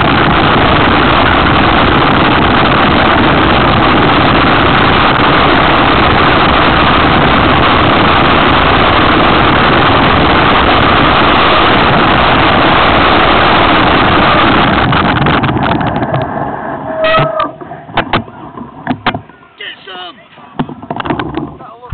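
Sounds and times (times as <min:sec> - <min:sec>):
bike tyres rolling: 0:00.0 - 0:19.6
wind rushing: 0:00.0 - 0:19.7.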